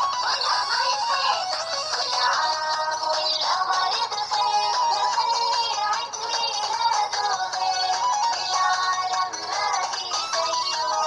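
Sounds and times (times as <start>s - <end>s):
children's song with singing voice: 0.0s - 11.0s.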